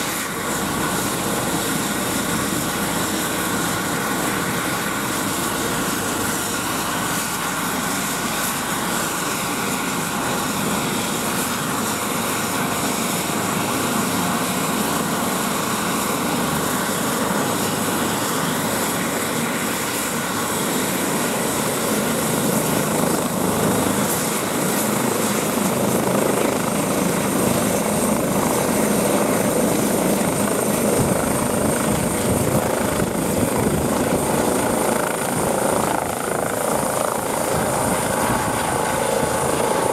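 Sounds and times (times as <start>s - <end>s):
helicopter turbines and rotor: 0.0s - 39.9s.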